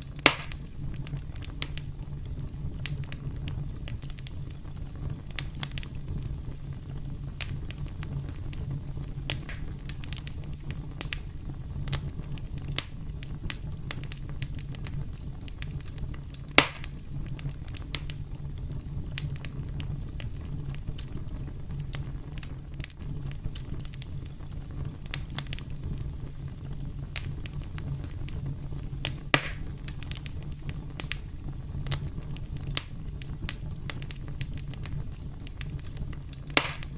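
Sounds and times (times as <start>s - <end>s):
campfire crackling and popping: 0.0s - 36.9s
low rumble of burning fire: 0.0s - 36.9s.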